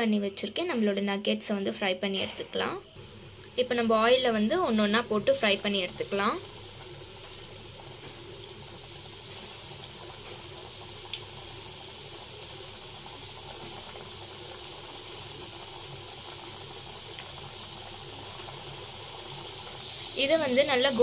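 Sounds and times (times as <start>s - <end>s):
food deep-frying in oil: 0.3s - 21.0s.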